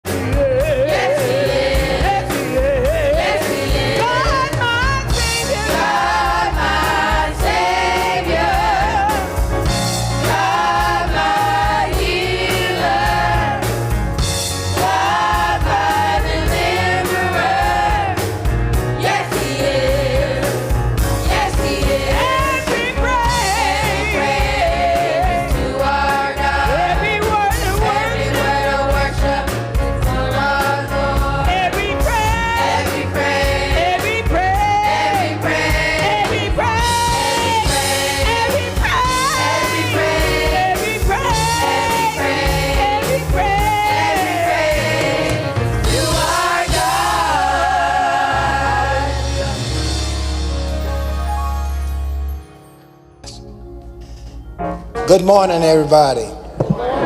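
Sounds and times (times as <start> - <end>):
choir singing: 0.1 - 50.2, 56.6 - 57.0
bass and drums: 0.1 - 51.4.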